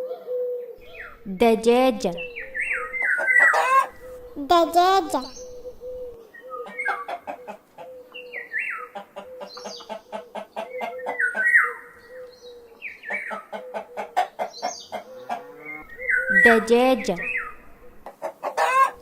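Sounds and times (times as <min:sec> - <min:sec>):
hen clucking: 0:00.8 - 0:19.0.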